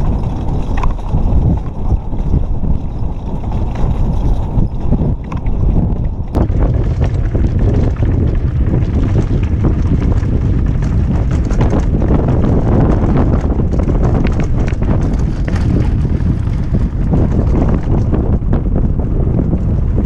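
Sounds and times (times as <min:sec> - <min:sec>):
bike knocking and clattering over rock: 0:00.0 - 0:20.0
tyres rumbling on rocky trail: 0:00.0 - 0:20.0
wind buffeting microphone: 0:00.0 - 0:20.0.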